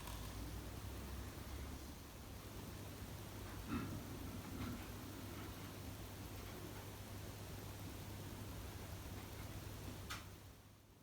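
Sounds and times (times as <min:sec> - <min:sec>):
light hiss: 0:00.0 - 0:10.9.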